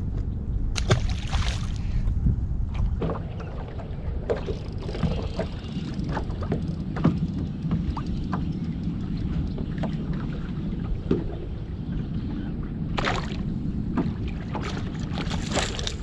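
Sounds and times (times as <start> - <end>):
steady low rumble: 0.0 - 16.0
water lapping against hull: 0.7 - 16.0.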